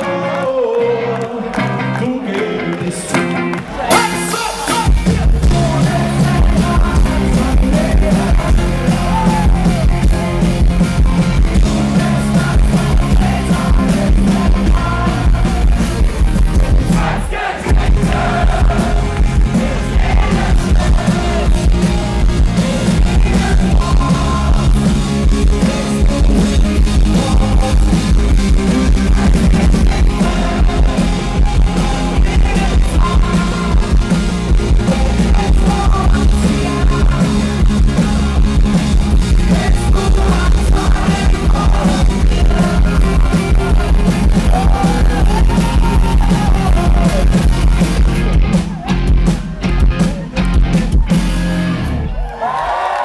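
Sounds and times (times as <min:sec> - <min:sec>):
person singing: 0:00.0 - 0:10.6, 0:11.7 - 0:16.0, 0:16.8 - 0:38.6, 0:39.4 - 0:47.7
live rock band playing: 0:01.6 - 0:52.3.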